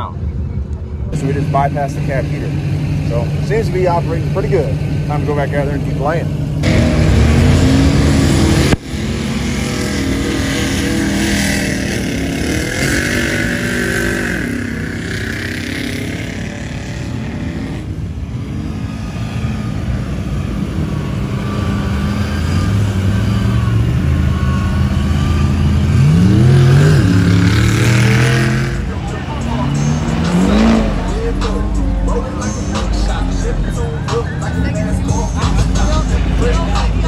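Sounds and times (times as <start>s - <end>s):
truck engine revving: 1.1s - 37.0s.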